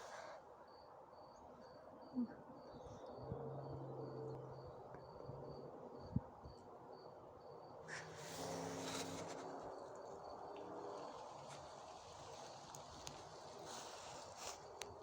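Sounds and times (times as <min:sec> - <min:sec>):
insect chirping: 0:00.0 - 0:14.8
outdoor background noise: 0:00.0 - 0:15.0.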